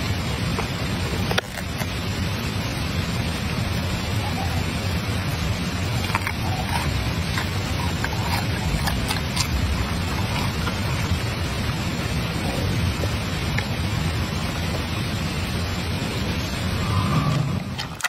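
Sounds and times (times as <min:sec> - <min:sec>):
steady low rushing noise: 0:00.0 - 0:17.9.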